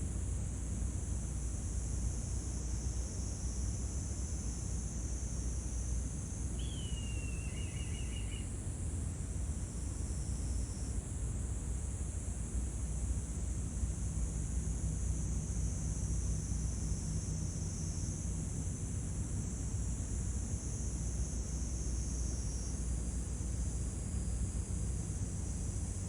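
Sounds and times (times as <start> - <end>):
insect hiss: 0.1 - 11.0, 12.7 - 26.0.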